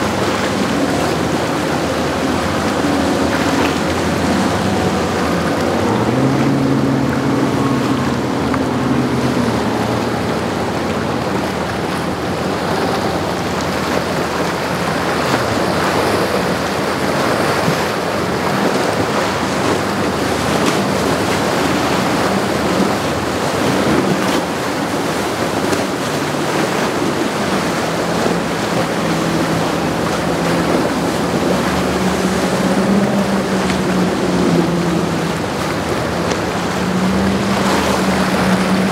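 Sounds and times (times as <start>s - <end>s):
outboard engine hum: 0.0s - 38.9s
surf: 0.0s - 38.9s
wind: 0.0s - 38.9s.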